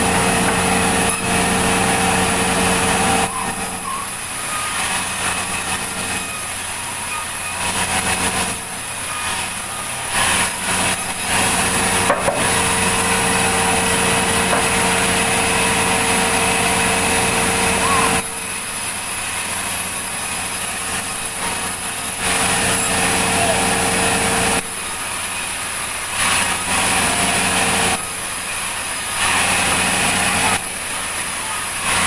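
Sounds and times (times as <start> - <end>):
saw cutting through log: 0.0 - 32.0.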